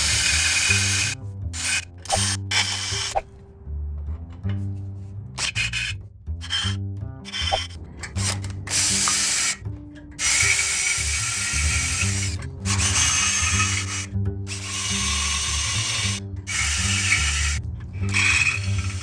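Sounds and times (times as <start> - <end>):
power drill boring into steel: 0.0 - 3.2, 5.4 - 9.6, 10.2 - 19.0
background music with bass line: 0.0 - 19.0.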